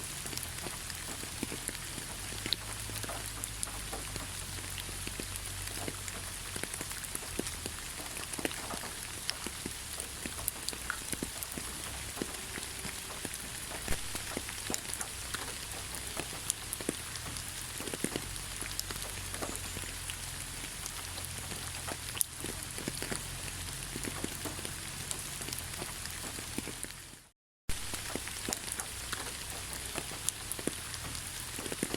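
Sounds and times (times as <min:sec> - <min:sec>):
rain with drop ticks: 0:00.0 - 0:31.9.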